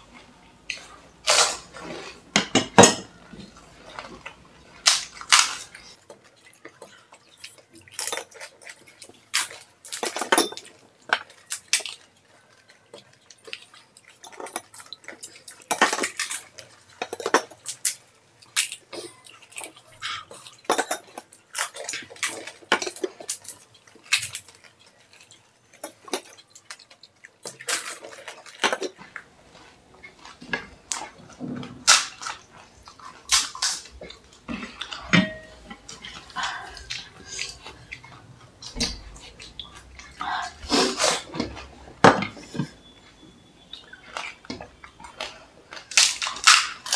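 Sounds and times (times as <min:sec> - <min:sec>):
crisp shells cracking and crunching: 0:03.4 - 0:41.8, 0:43.8 - 0:46.9.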